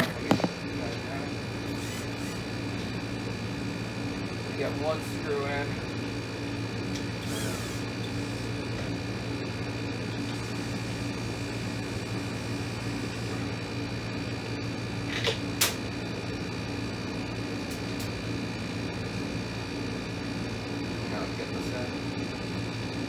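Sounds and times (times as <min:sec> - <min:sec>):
window air conditioner humming: 0:00.0 - 0:23.0.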